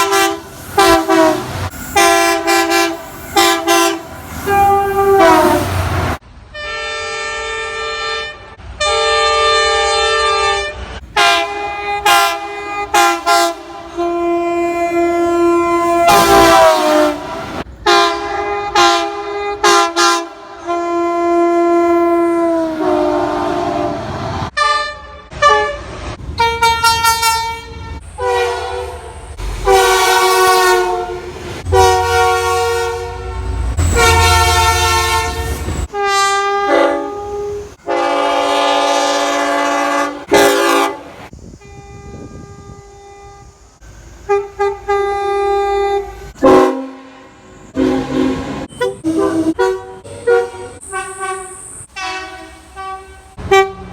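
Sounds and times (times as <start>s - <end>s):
train horns sounding chords: 0.0s - 43.6s, 44.3s - 53.9s
low rumble of passing train: 0.0s - 53.9s.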